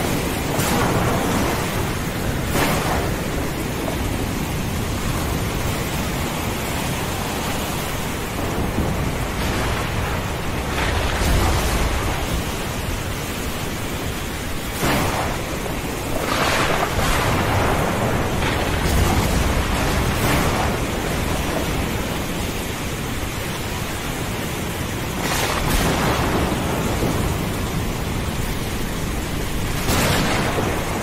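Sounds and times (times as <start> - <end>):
thunder cracks: 0.0 - 6.1, 8.2 - 22.7, 25.2 - 31.0
deep thunder rumble: 0.0 - 23.3, 24.7 - 31.0
heavy rain hiss: 0.0 - 31.0.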